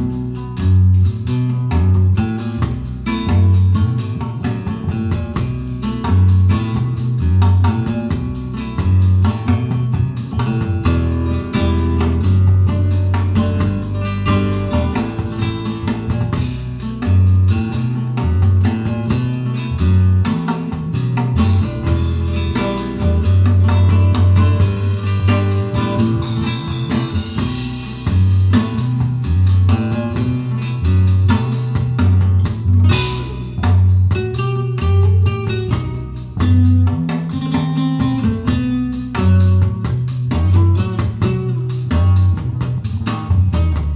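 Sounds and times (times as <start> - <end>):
deep bass line: 0.0 - 43.9
guitar music over loudspeakers: 0.0 - 43.9.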